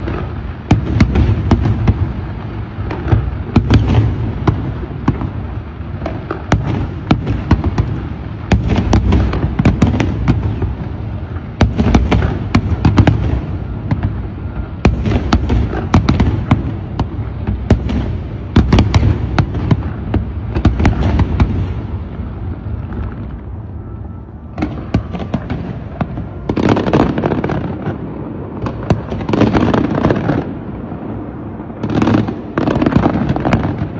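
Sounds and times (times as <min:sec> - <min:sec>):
deep firework booms: 0:00.0 - 0:33.9
fireworks cracking and banging: 0:00.0 - 0:33.9.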